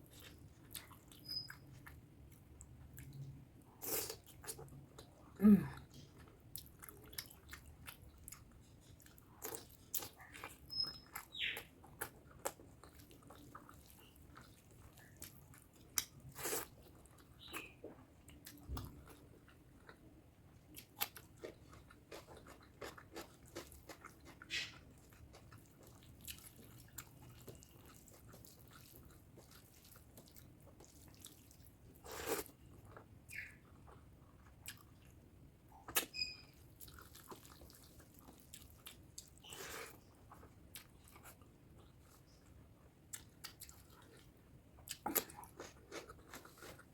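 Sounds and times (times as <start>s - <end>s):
chewing and wet mouth sounds: 0.0s - 46.9s.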